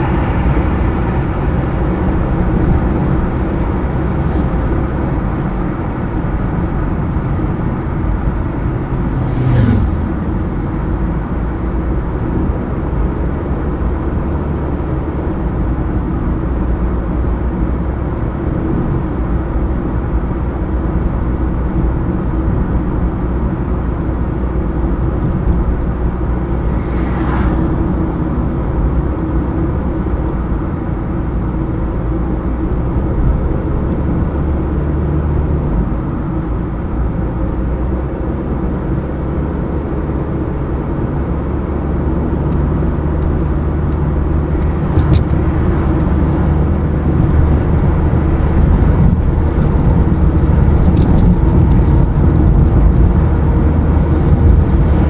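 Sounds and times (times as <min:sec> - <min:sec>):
car engine hum: 0:00.0 - 0:55.0
tyre noise on road: 0:00.0 - 0:55.0.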